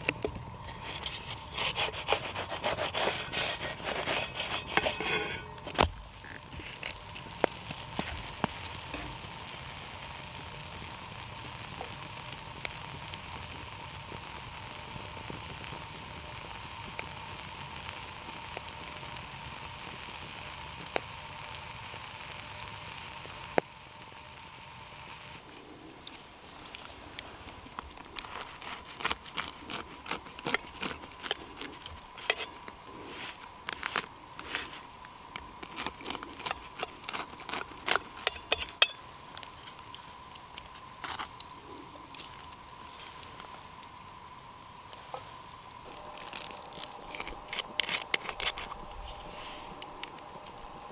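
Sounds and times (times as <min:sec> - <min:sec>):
oil popping and crackling: 0:00.0 - 0:50.9
pancake sizzling in oil: 0:00.0 - 0:50.9.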